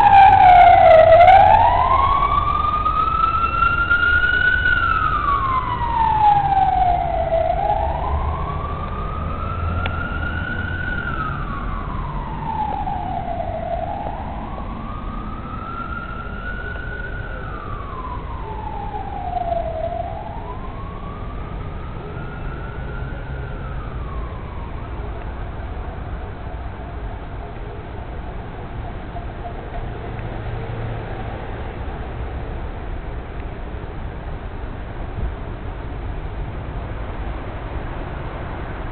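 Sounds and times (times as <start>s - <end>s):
emergency siren wailing: 0.0s - 31.3s
street traffic rumble: 0.0s - 38.9s.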